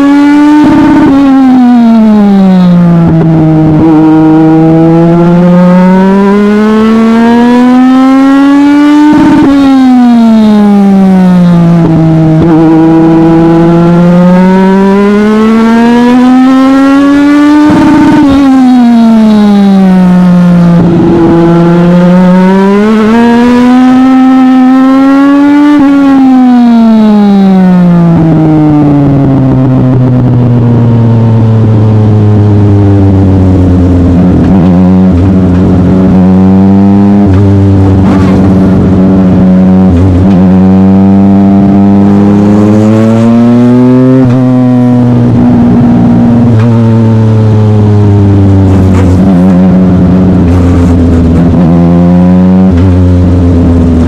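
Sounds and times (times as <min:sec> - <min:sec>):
race car engine under load: 0:00.0 - 0:26.6, 0:27.2 - 0:54.0.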